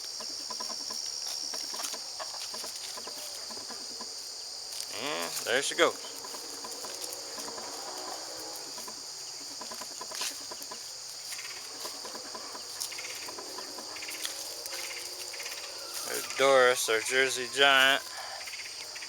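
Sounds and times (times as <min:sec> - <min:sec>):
faint clicks and rustles: 0:00.0 - 0:16.4
insects trilling: 0:00.0 - 0:19.0.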